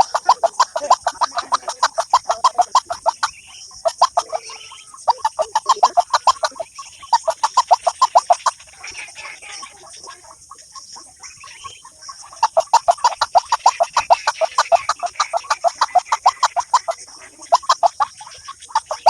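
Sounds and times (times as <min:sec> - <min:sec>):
bird clucking through phone speaker: 0:00.0 - 0:09.9, 0:12.3 - 0:19.0.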